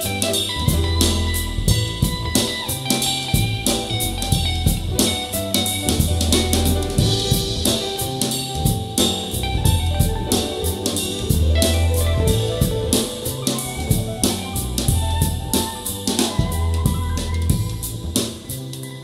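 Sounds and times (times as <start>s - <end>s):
jazz music with drums bass guitar: 0.0s - 19.0s.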